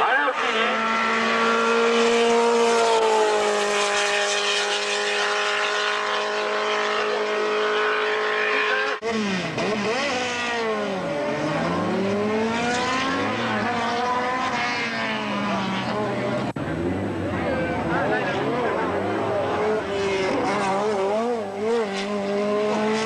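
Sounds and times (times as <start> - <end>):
car engine revving up and down: 0.0 - 23.0
race car engine at high revs: 0.0 - 23.0.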